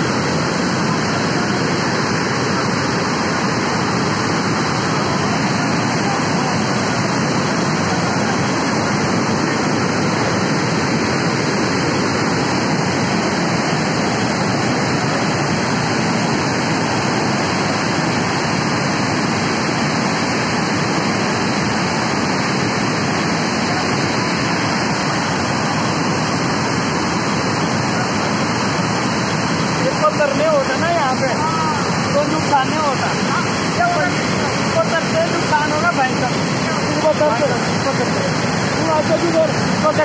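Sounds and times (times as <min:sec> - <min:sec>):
rushing flood water: 0:00.0 - 0:40.0.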